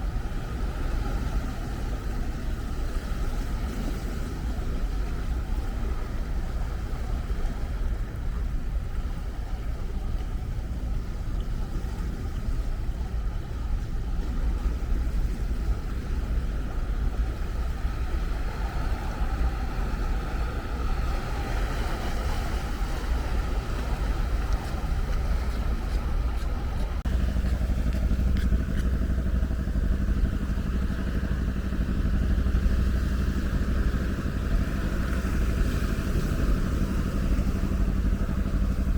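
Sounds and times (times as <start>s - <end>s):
low hum: 0.0s - 38.9s
waves breaking: 0.0s - 38.9s.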